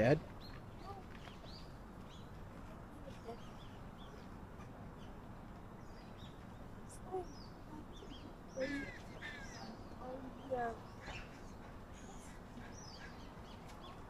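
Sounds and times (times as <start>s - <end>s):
birds chirping: 0.0s - 14.0s
low background hum: 0.0s - 14.0s.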